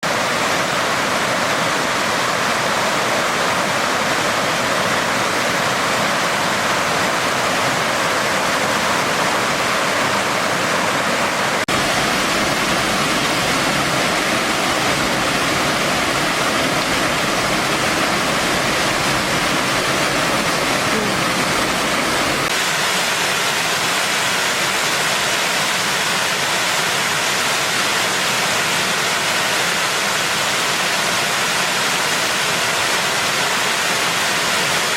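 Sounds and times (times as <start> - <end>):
stream rushing: 0.0 - 34.9.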